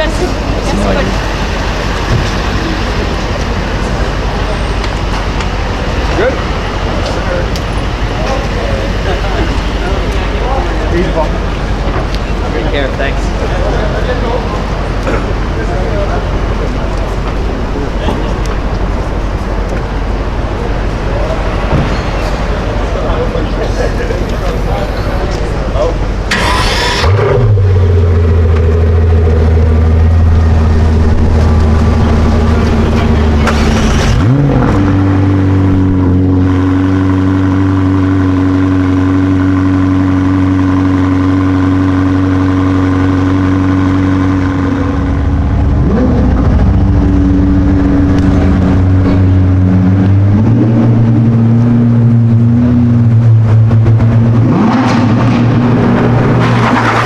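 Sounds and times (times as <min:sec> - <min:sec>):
sports car engine idling: 0:00.0 - 0:34.2, 0:34.9 - 0:56.4
engine throttle blips: 0:00.0 - 0:57.0.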